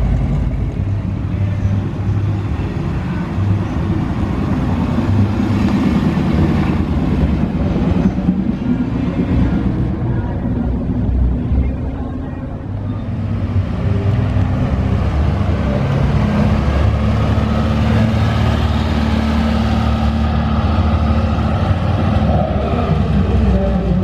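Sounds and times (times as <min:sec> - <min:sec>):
car engine driving by: 0:00.0 - 0:24.0.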